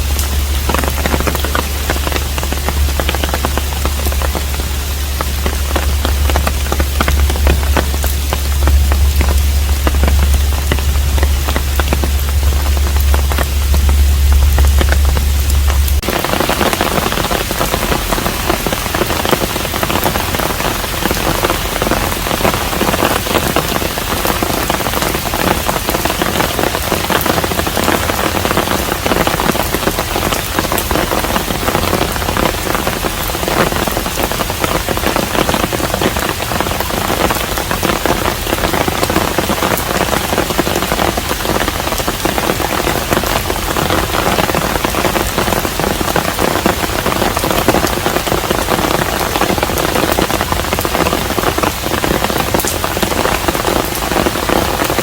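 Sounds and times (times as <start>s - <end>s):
low rumble: 0.0s - 55.0s
rain patter: 0.0s - 55.0s.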